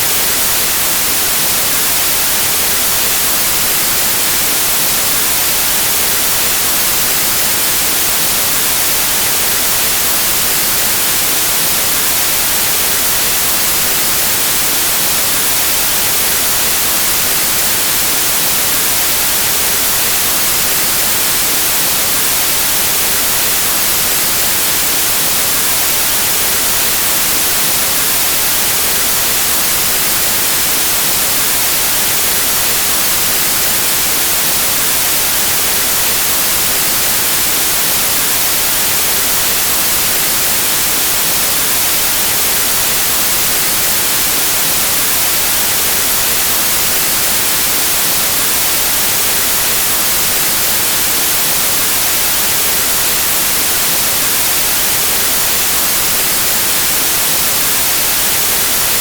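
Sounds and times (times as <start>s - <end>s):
white noise static hiss: 0.0s - 59.0s.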